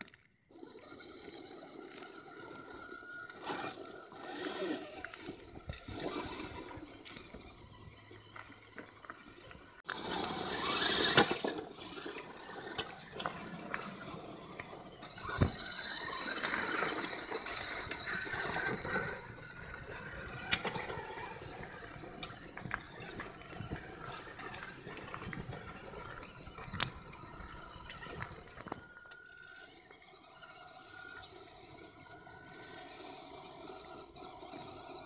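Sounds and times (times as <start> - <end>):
tyres crunching on gravel: 0.0 - 31.6
motor and gear whine: 0.0 - 35.0.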